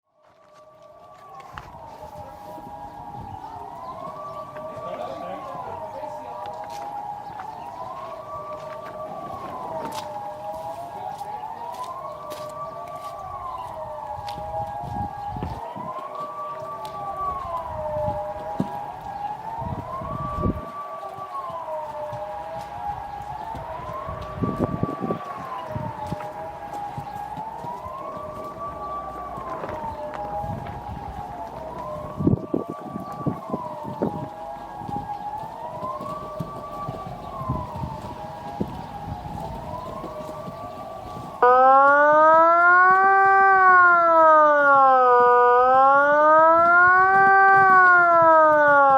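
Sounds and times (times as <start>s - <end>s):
siren wailing: 0.0s - 48.9s.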